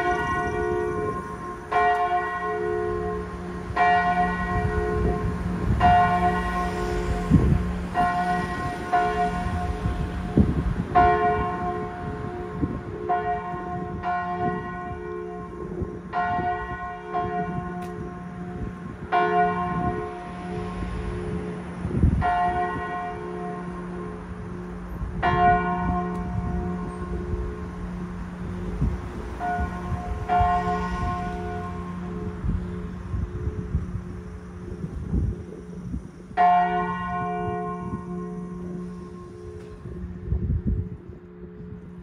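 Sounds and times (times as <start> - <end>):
low bell hum: 0.0 - 13.3, 14.0 - 42.0
large church bell tolling: 0.0 - 42.0.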